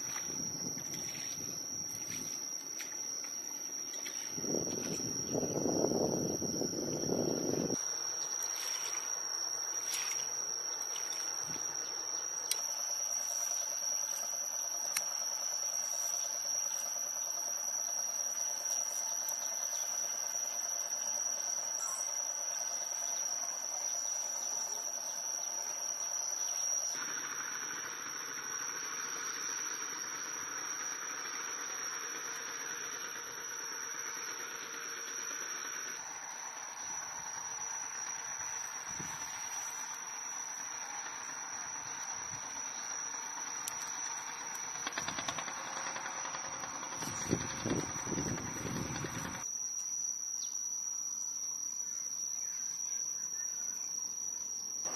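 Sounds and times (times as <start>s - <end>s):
insects droning: 0.0s - 54.9s.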